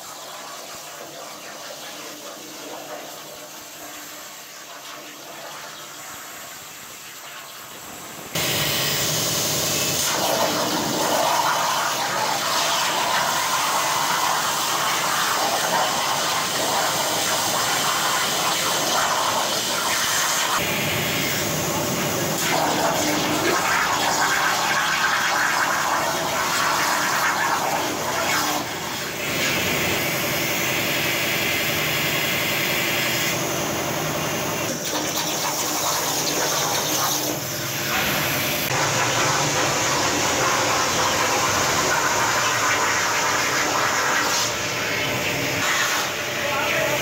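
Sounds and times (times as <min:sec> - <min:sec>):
plasma torch cutting steel: 0:08.2 - 0:47.0.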